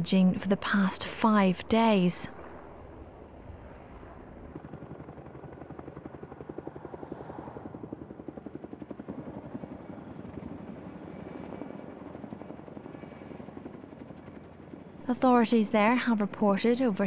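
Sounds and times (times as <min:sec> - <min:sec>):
helicopter rotor blades chopping: 0:00.0 - 0:17.0.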